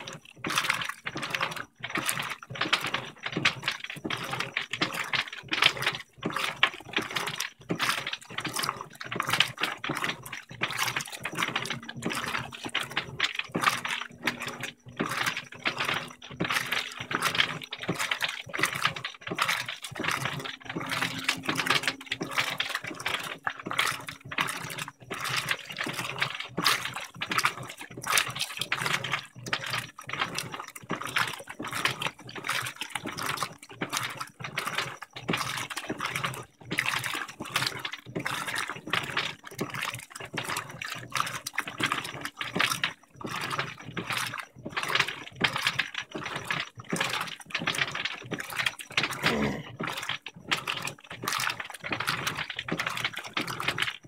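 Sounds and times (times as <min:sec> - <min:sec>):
washing machine churning water: 0:00.0 - 0:54.0.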